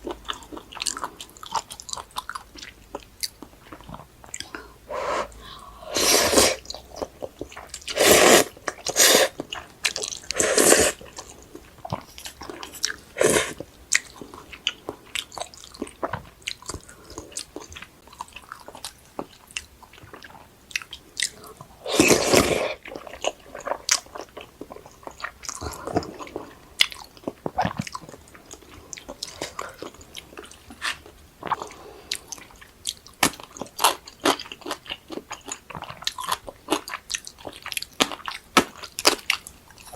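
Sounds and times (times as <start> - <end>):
person chewing with wet clicks: 0.0 - 4.7, 6.6 - 21.8, 22.7 - 39.9.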